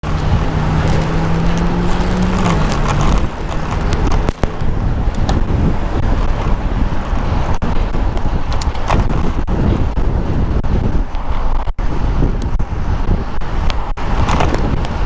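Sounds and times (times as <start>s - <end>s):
city traffic: 0.0s - 15.0s
motor vehicle drone: 0.0s - 15.0s
wind buffeting microphone: 0.0s - 15.0s.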